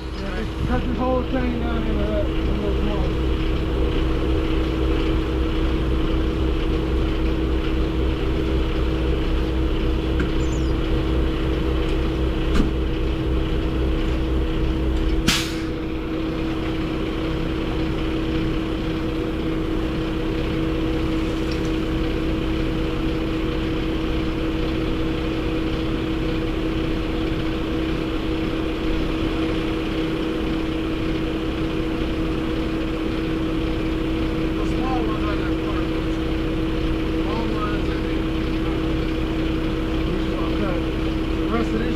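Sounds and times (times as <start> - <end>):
truck engine drone: 0.0 - 41.9.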